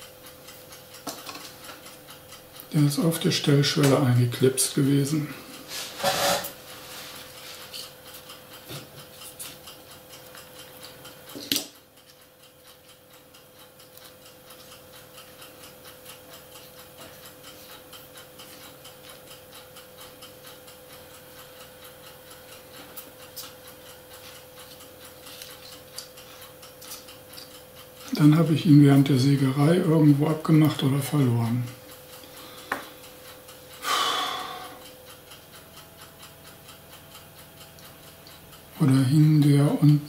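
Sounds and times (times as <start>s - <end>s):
steady ticking: 0.0s - 5.7s, 7.9s - 40.0s
faint steady hum: 0.0s - 40.0s.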